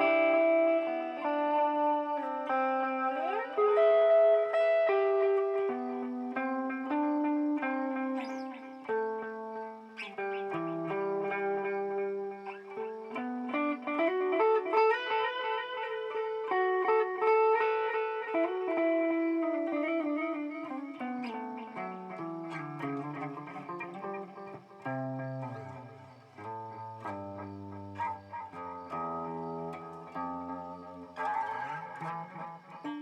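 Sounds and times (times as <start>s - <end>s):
electric guitar with delay repeats: 0.0s - 33.0s.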